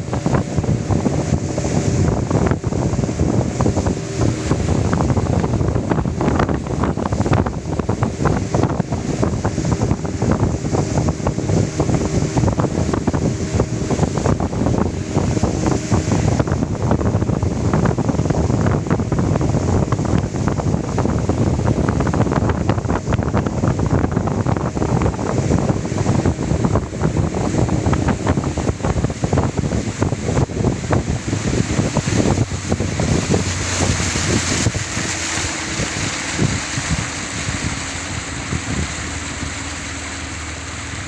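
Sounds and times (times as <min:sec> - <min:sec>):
faint engine hum: 0:00.0 - 0:41.0
wind buffeting microphone: 0:00.0 - 0:41.0.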